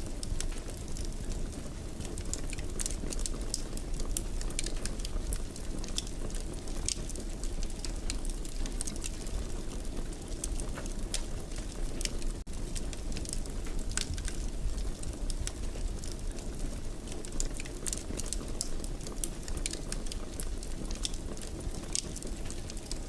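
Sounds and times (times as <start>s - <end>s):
fire crackling and popping: 0.0s - 23.0s
low rumble of fire flames: 0.0s - 23.0s.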